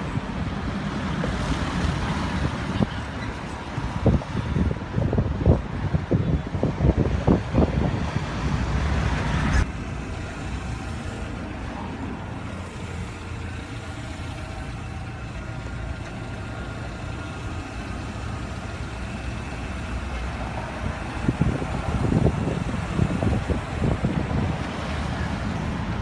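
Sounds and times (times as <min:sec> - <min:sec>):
motor vehicle engine rumble: 0:00.0 - 0:26.0.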